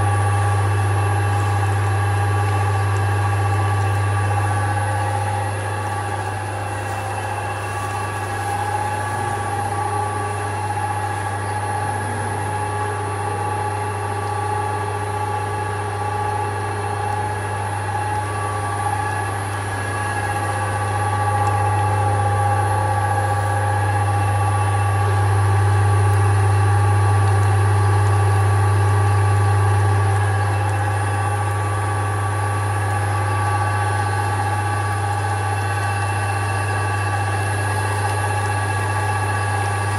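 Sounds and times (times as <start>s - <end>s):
deep machine hum: 0.0s - 39.9s.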